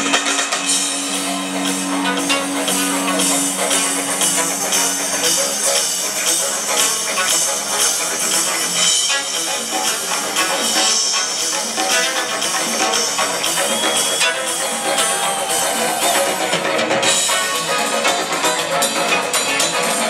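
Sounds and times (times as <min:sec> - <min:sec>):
bright high percussion: 0:00.0 - 0:19.1
drums: 0:00.0 - 0:20.0
live rock band playing: 0:00.0 - 0:20.0.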